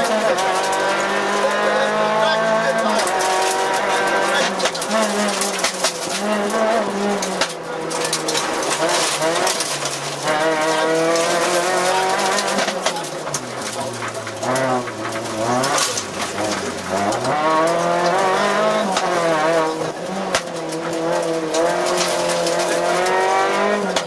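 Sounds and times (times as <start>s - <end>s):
car engine revving: 0.0s - 24.0s
tyre and road noise: 0.0s - 24.0s.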